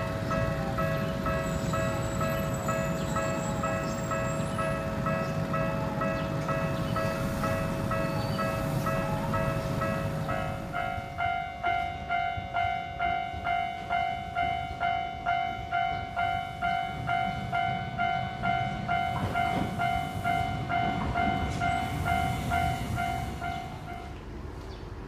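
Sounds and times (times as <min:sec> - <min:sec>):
railroad crossing bell ringing: 0:00.0 - 0:24.2.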